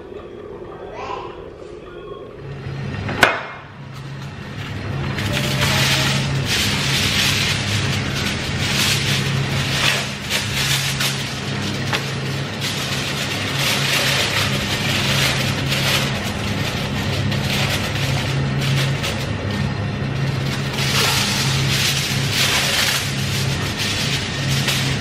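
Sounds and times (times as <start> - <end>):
aluminium foil crinkling: 3.9 - 25.0.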